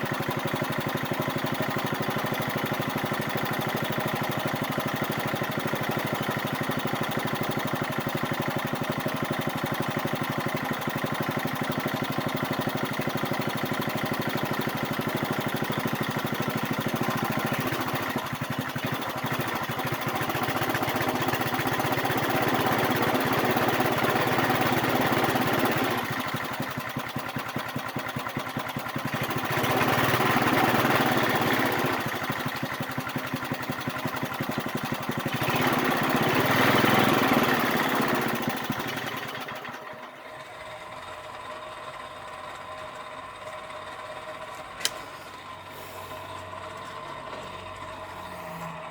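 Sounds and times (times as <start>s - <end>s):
small engine running: 0.0s - 48.9s.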